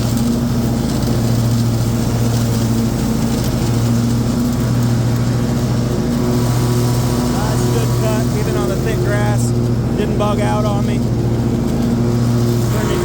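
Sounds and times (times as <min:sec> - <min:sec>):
mower engine cutting grass: 0:00.0 - 0:13.0.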